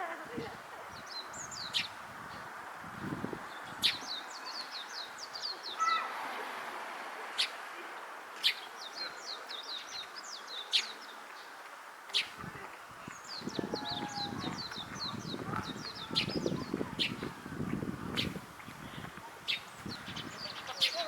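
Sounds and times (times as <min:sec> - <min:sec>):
sparrows chirping: 0:00.0 - 0:06.1, 0:07.4 - 0:21.0.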